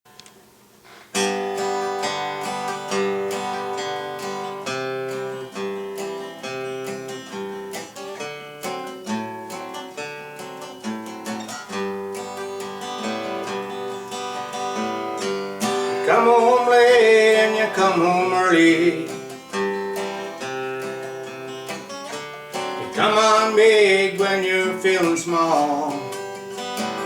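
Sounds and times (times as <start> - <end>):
acoustic guitar strumming chords: 0.9 - 27.0.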